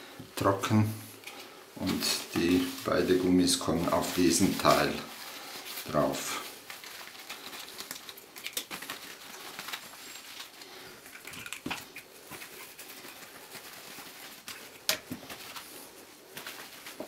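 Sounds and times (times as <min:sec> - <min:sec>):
cloth rubbing over plastic: 0:01.8 - 0:11.0, 0:12.0 - 0:17.0.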